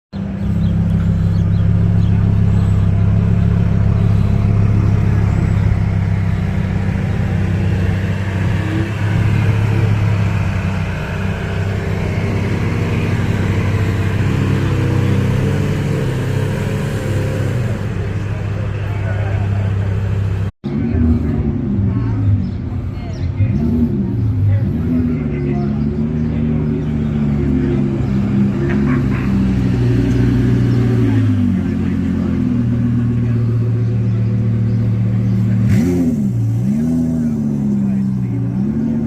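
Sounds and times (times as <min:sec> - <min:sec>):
car engine idling: 0:00.1 - 0:39.0.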